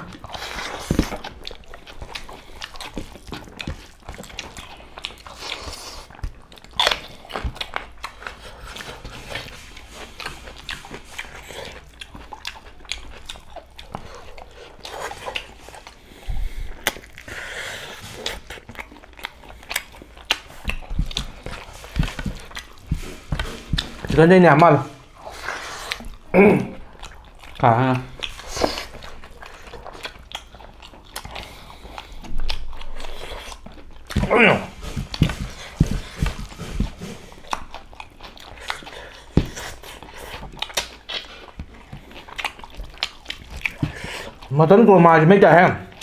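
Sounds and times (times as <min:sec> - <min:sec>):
men chewing and smacking: 0:00.0 - 0:46.0.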